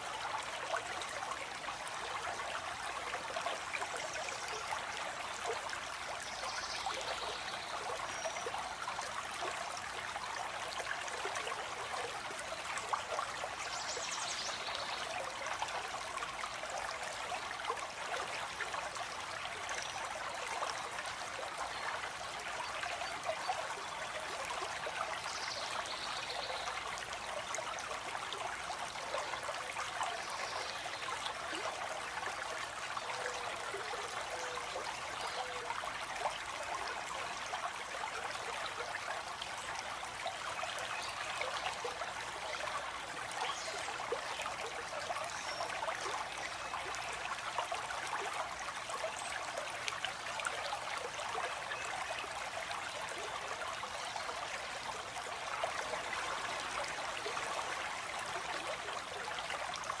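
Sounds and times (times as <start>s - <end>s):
stream babbling: 0.0s - 60.0s.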